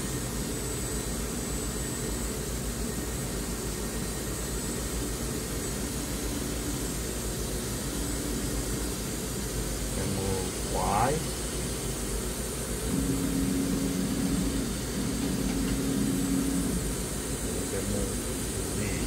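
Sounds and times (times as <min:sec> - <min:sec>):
grinding machine hum and hiss: 0:00.0 - 0:19.0.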